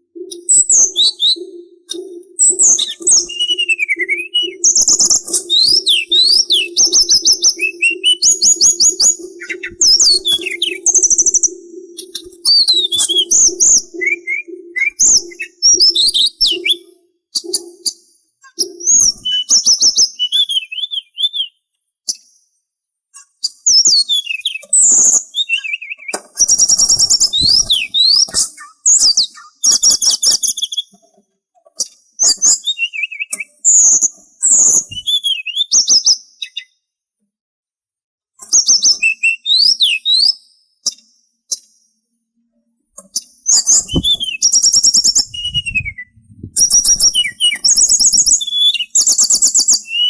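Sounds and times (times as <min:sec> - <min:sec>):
songbird singing whistled trills: 0:00.0 - 0:22.4, 0:23.2 - 0:31.0, 0:31.8 - 0:36.8, 0:38.4 - 0:42.0, 0:43.1 - 0:50.0.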